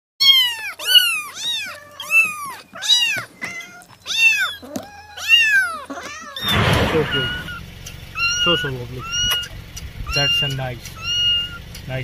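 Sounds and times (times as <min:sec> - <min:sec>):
cat meowing: 0:00.2 - 0:11.7.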